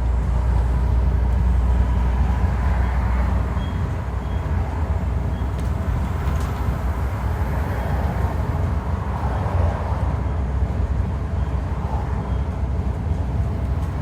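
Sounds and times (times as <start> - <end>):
bus engine rumbling: 0.0 - 14.0.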